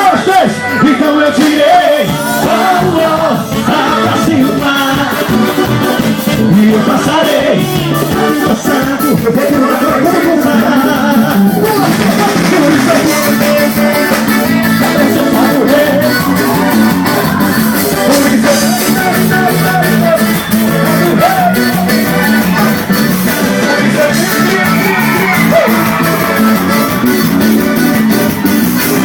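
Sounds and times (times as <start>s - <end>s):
live band playing: 0.0s - 29.0s
repeating bass line: 0.0s - 29.0s
person singing: 0.6s - 29.0s.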